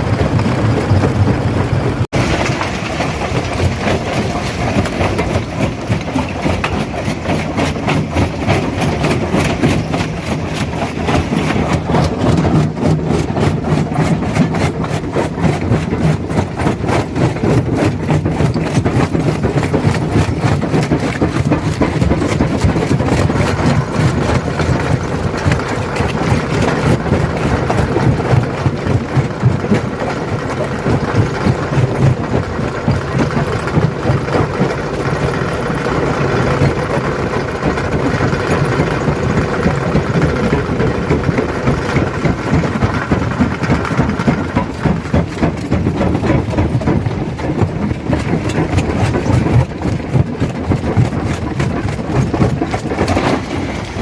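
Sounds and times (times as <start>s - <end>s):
heavy engine drone: 0.0s - 54.0s.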